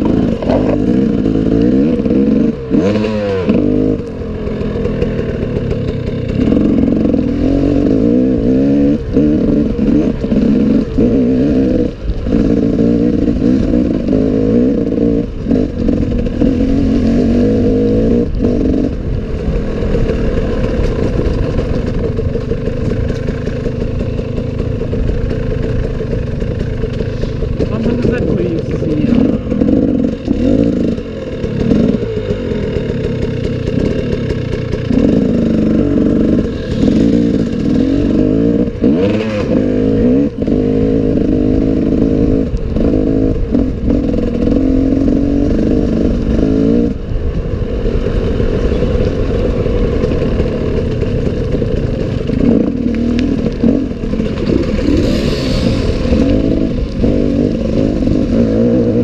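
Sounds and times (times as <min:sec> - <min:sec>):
motorcycle knocks and clatter: 0:00.0 - 0:55.2
motorcycle engine revving: 0:00.0 - 0:59.0.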